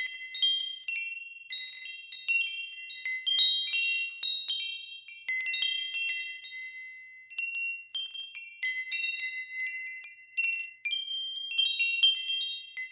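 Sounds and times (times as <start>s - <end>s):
wind chimes ringing: 0.0s - 12.9s.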